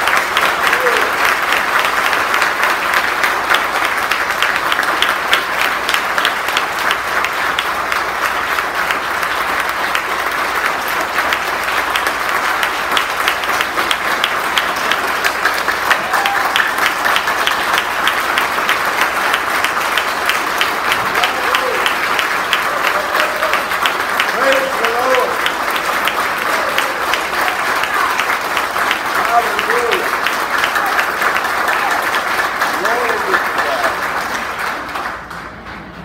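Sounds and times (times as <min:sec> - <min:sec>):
crowd applauding: 0:00.0 - 0:36.0.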